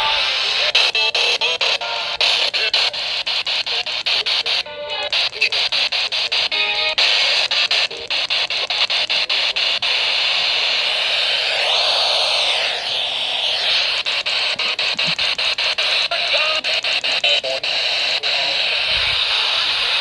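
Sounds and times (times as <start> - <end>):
loud radio static: 0.0 - 20.0.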